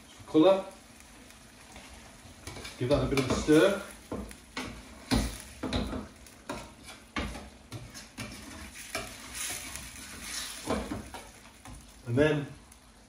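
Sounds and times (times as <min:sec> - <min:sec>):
sauce sizzling: 0:00.0 - 0:13.0
utensil scraping frying pan: 0:00.9 - 0:12.1.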